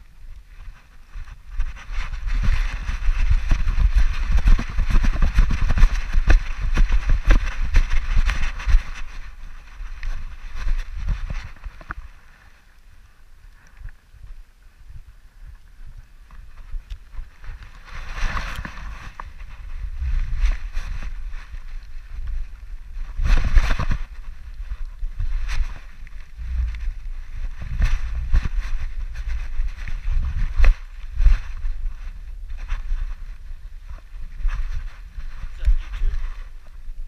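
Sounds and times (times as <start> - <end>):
low rumbling wind: 0.0 - 37.0.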